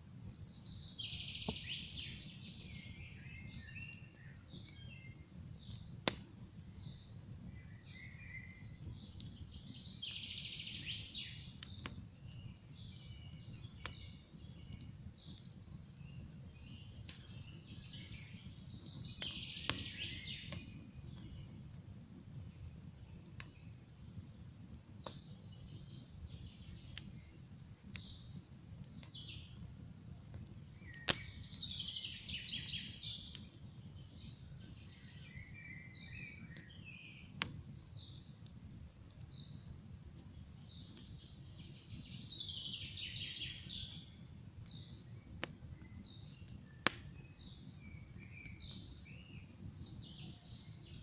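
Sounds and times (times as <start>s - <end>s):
campfire crackling and popping: 0.0s - 51.0s
low rumble of fire: 0.0s - 51.0s
songbirds singing: 0.2s - 51.0s.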